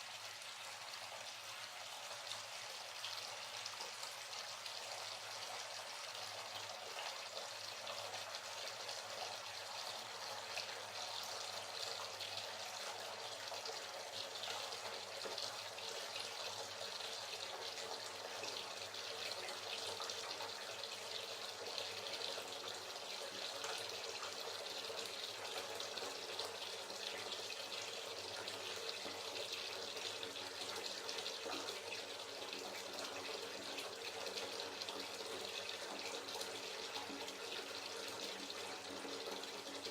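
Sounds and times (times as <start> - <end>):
tap water filling bathtub: 0.0 - 39.9.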